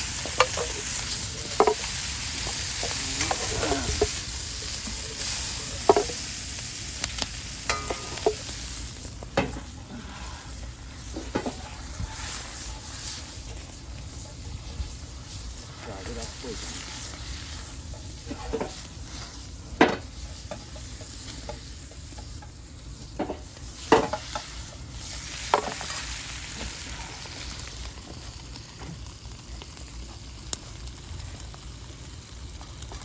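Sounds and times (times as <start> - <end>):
food sizzling in frying pan: 0.0 - 33.0.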